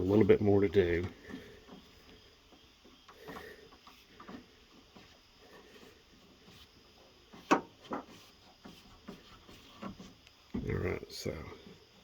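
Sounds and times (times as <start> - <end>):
rubber gasket handling noise: 0.0 - 10.9.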